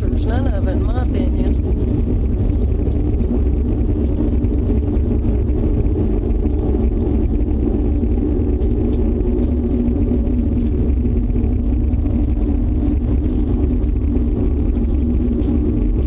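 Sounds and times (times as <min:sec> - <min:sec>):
low rumbling drone: 0:00.0 - 0:16.0
steady hum: 0:00.0 - 0:16.0.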